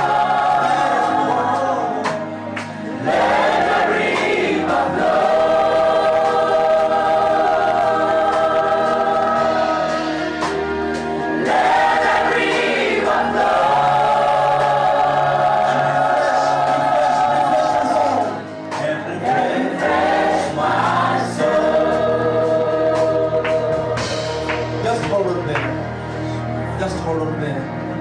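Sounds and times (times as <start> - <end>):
group singing gospel song: 0.0 - 25.1.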